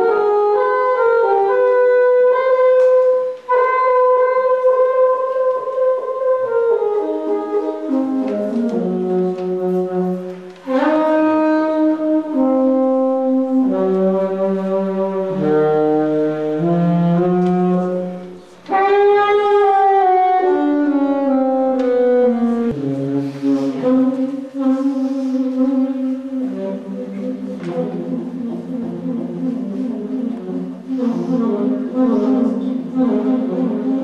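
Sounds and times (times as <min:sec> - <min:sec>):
solo saxophone: 0:00.0 - 0:34.0.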